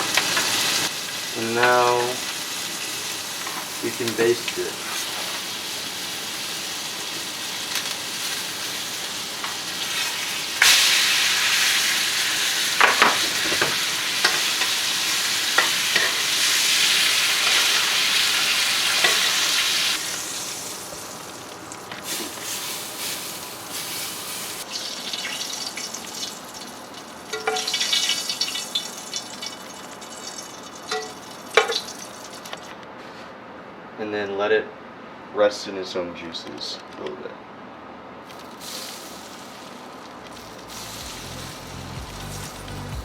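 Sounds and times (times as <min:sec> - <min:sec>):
steak sizzling in a pan: 0:00.0 - 0:32.4, 0:38.3 - 0:41.7.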